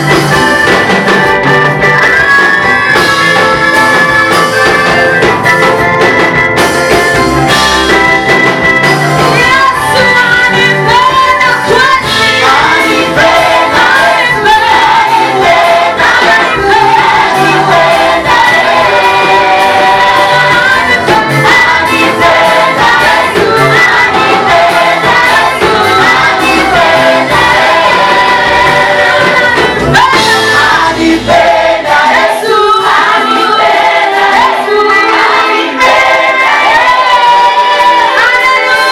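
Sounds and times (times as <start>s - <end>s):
gospel singers with band: 0.0s - 38.9s.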